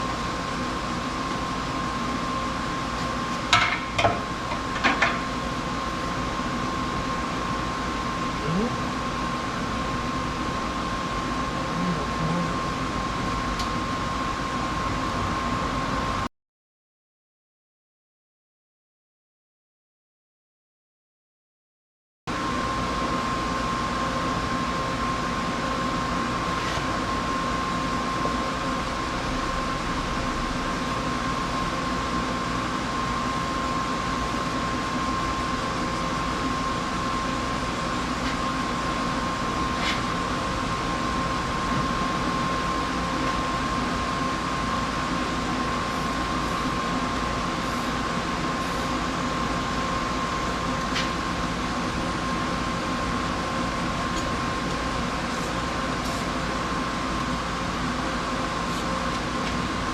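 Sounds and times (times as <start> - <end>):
mechanical hum with high whine: 0.0 - 16.3, 22.3 - 59.9.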